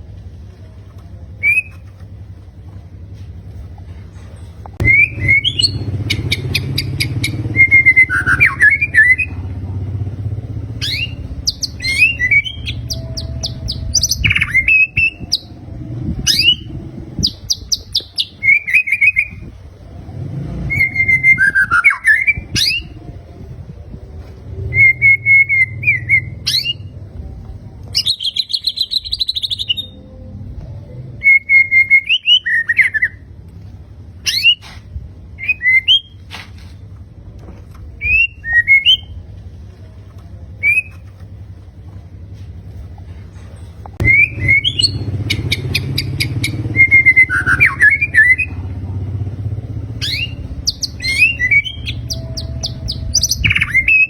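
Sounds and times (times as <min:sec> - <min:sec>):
songbird whistles and trills: 0:01.3 - 0:02.1, 0:04.8 - 0:09.5, 0:10.6 - 0:33.3, 0:34.2 - 0:36.7, 0:37.8 - 0:41.5, 0:44.0 - 0:54.0.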